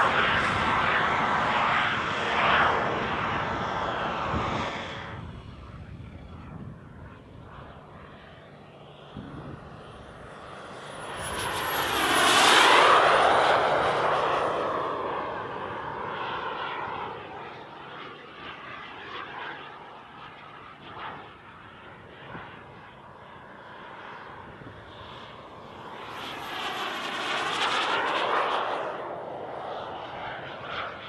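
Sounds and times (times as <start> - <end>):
jet turbine passing: 0.0 - 31.0.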